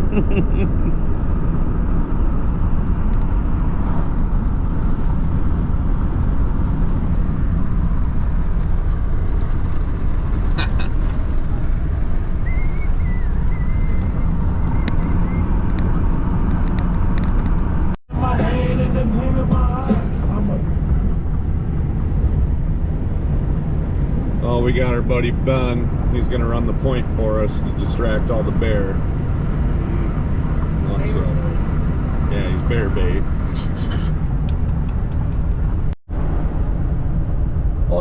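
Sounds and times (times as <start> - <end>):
vehicle road and engine noise: 0.0 - 38.0.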